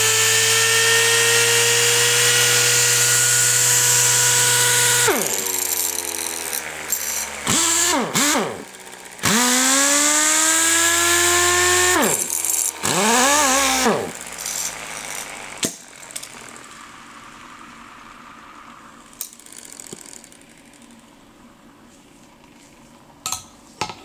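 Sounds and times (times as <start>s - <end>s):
air sander motor whine: 0.0s - 19.6s.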